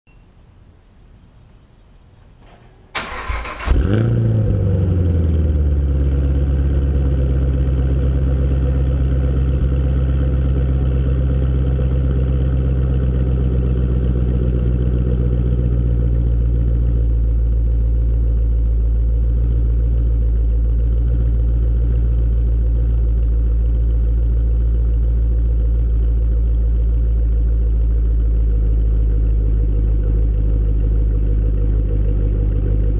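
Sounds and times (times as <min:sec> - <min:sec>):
car engine idling: 0:02.8 - 0:32.9.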